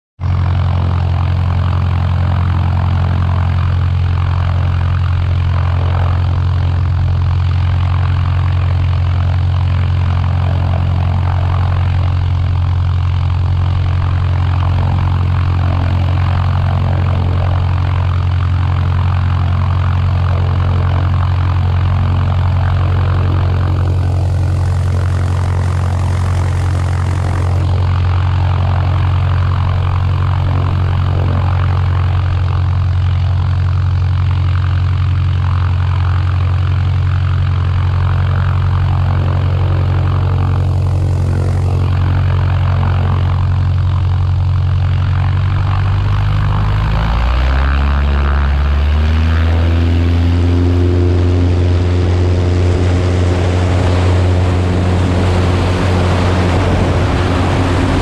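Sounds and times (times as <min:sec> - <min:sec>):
propeller aircraft engine drone: 0:00.2 - 0:58.0.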